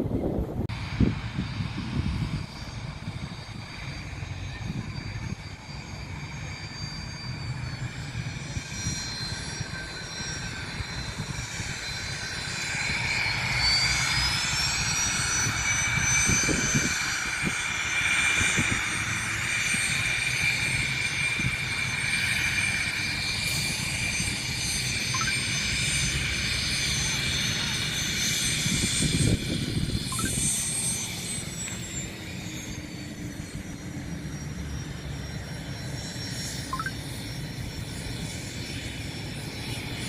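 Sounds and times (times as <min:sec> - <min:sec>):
airliner engines whining: 0:00.0 - 0:40.0.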